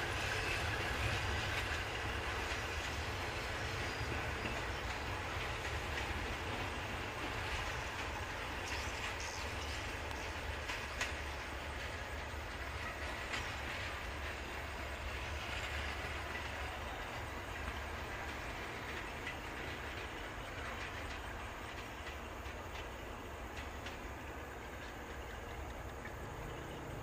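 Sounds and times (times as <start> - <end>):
passenger train rumbling: 0.0 - 27.0
train wheel clicks: 0.0 - 27.0.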